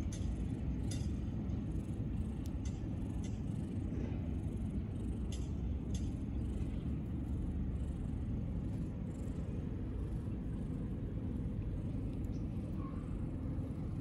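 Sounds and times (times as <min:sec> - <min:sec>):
cat purring: 0:00.3 - 0:14.0.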